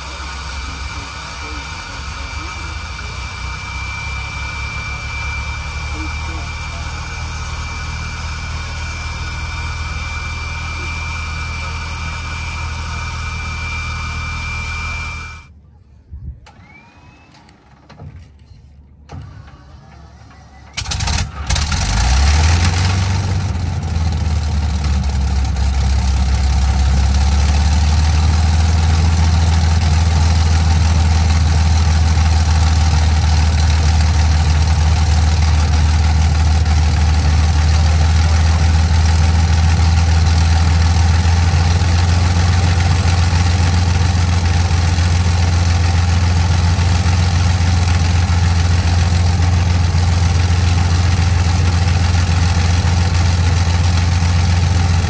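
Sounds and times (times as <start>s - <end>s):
aircraft piston engine starting and idling: 0.0s - 15.5s, 16.4s - 55.0s
machine hum with high whine: 0.0s - 55.0s.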